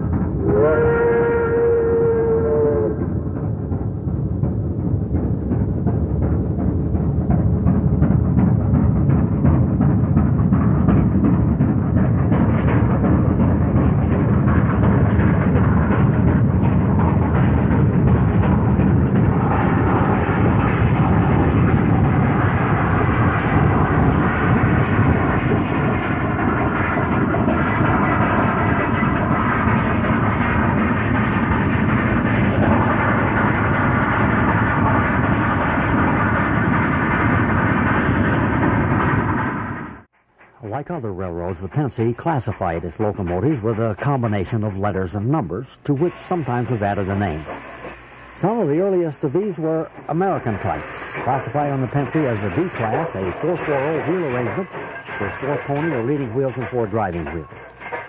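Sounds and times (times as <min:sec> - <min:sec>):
steam locomotive rumbling: 0:00.0 - 0:58.0.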